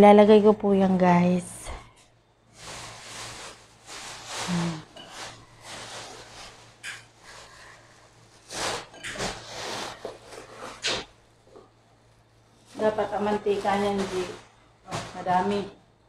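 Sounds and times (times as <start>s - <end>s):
soft rustling: 1.7s - 15.7s.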